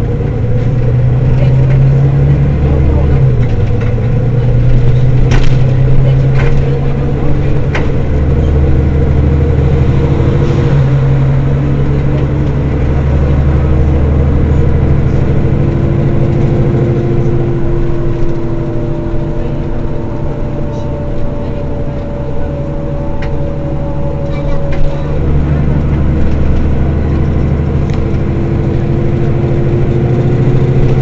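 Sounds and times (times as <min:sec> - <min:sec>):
bus engine idling: 0:00.0 - 0:31.0.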